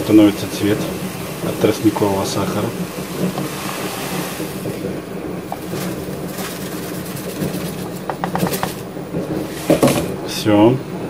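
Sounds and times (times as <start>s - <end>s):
steady hum and hiss: 0.0s - 11.0s
wooden spoon stirring syrup: 0.1s - 10.0s.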